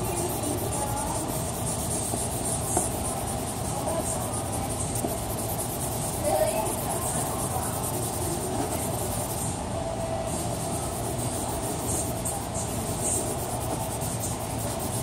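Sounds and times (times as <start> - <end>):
charcoal scratching on paper: 0.0 - 9.6, 10.3 - 15.0
low rumbling background noise: 0.0 - 15.0.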